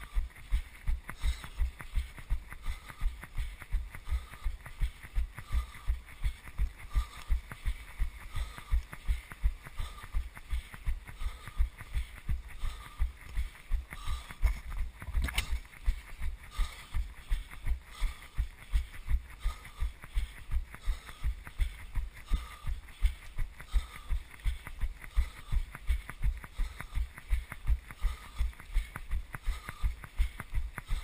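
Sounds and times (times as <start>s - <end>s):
hard breathing: 0.0s - 31.0s
running footsteps on wet asphalt: 0.0s - 31.0s.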